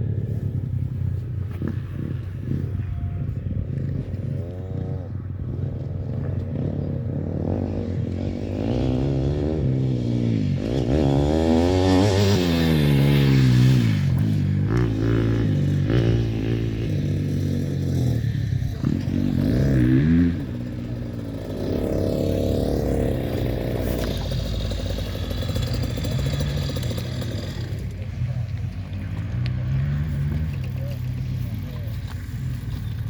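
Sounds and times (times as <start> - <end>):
motorbike engines revving: 0.0 - 33.0.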